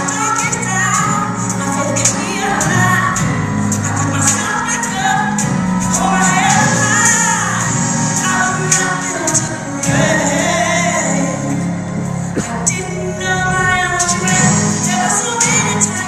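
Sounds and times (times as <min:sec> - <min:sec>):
woman singing: 0:00.0 - 0:11.7, 0:12.4 - 0:16.0.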